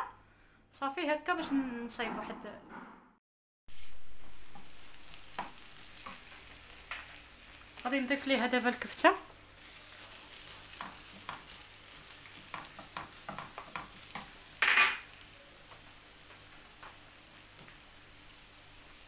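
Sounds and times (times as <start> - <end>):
faint sizzle: 3.7 - 19.0.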